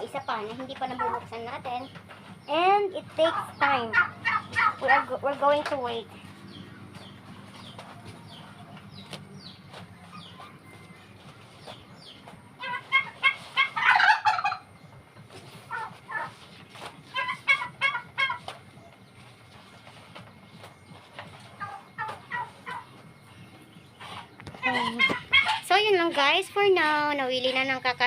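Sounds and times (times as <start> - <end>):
poultry rapid pulsing calls: 0.0 - 14.7, 15.6 - 18.5, 19.1 - 28.0.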